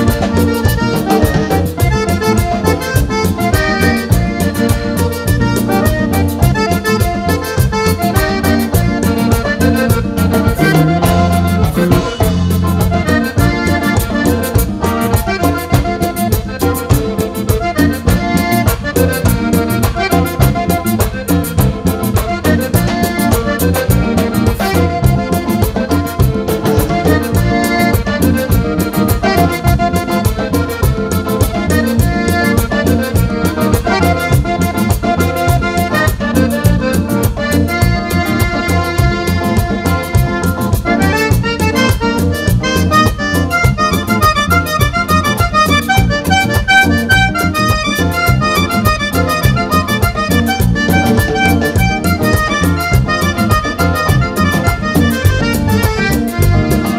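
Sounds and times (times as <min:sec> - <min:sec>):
accordion melody: 0:00.0 - 0:56.9
bass line: 0:00.0 - 0:56.9
fast percussion beat: 0:00.0 - 0:56.9.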